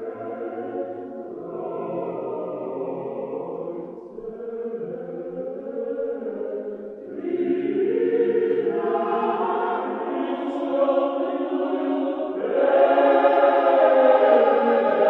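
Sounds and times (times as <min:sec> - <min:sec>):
choir singing church chant: 0:00.0 - 0:15.0.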